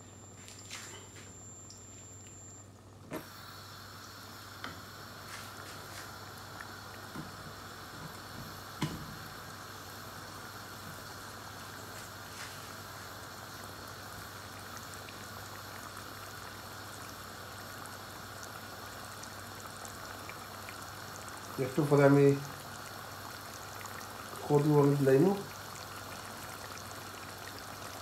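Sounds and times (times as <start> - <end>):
broth simmering in a pot: 3.2 - 28.0.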